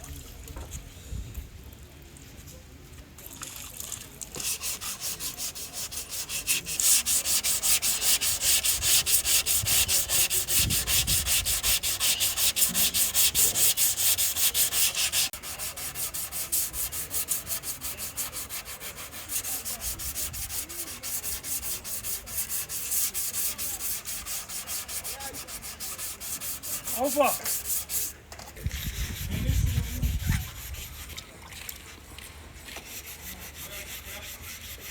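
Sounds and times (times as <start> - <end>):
hand sanding strokes: 4.4 - 31.3, 32.4 - 34.9.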